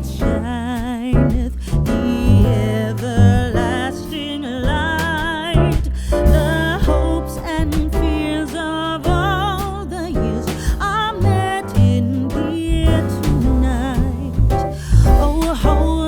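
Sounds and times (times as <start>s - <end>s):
instrumental accompaniment with bass: 0.0s - 16.0s
person singing with vibrato: 0.0s - 16.0s.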